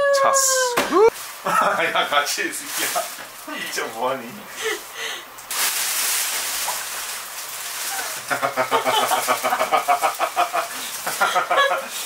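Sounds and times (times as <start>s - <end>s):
steady hiss: 1.1s - 12.0s.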